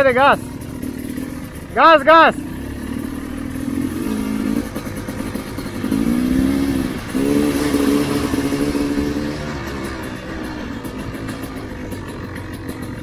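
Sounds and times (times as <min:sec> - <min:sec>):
dirt bike engines running: 0:00.0 - 0:13.0
dirt bike revving: 0:00.0 - 0:13.0.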